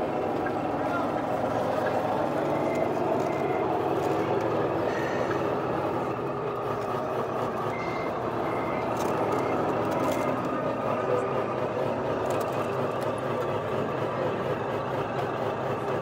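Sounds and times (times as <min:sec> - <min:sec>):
diesel engine sound: 0:00.0 - 0:16.0.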